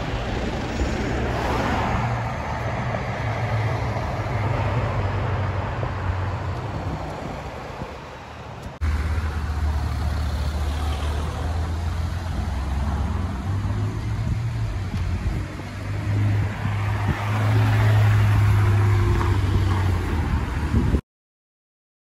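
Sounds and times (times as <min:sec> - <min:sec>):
car engine rumbling: 0:00.0 - 0:20.9.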